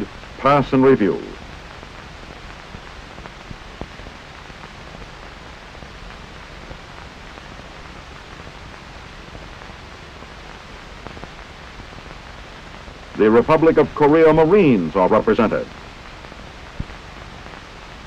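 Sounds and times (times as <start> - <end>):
film soundtrack hiss and crackle: 0.0 - 18.0.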